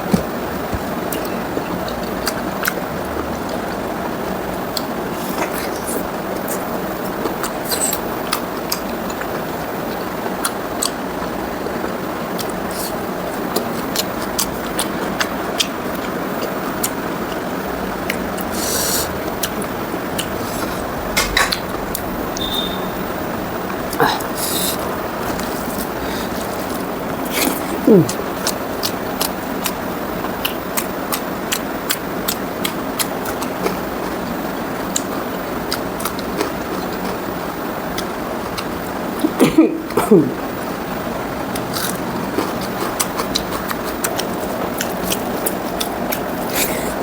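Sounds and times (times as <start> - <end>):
person chewing: 0.0 - 2.8, 4.7 - 22.8, 23.8 - 47.0.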